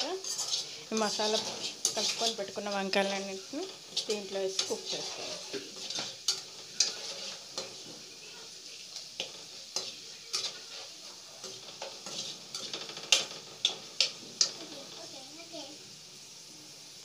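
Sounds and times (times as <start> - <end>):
spatula scraping and knocking pan: 0.0 - 15.1
food sizzling in hot oil: 0.0 - 17.0.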